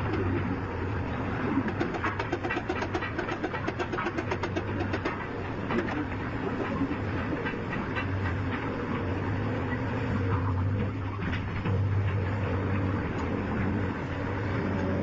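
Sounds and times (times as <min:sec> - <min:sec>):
engine-like hum: 0:00.0 - 0:15.0.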